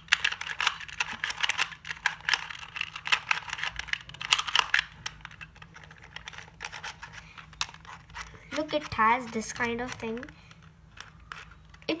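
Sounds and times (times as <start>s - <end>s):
puzzle cube plastic clicking: 0.0s - 12.0s.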